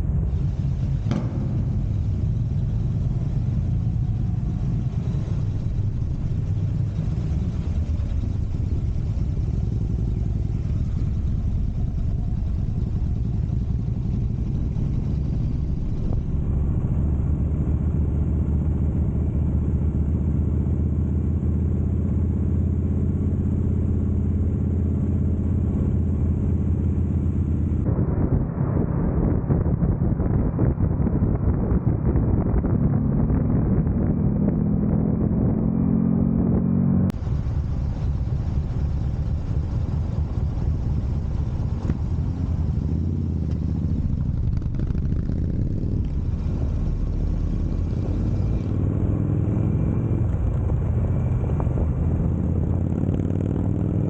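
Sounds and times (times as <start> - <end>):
motorcycle engine rumble: 0.0 - 54.0
road noise: 0.0 - 54.0.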